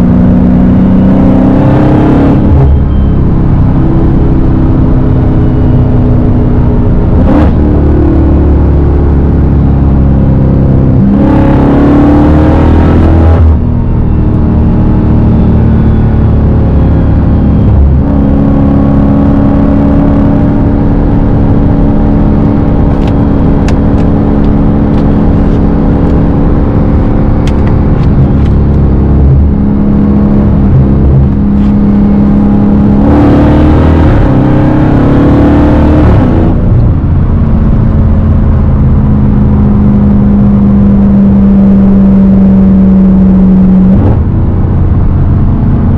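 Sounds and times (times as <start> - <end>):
loud car engine revving: 0.0 - 45.9.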